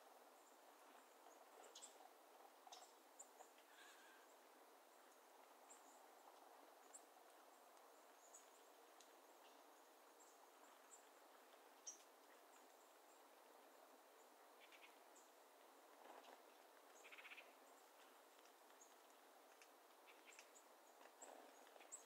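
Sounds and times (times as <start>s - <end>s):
low steady hiss: 0.0s - 22.0s.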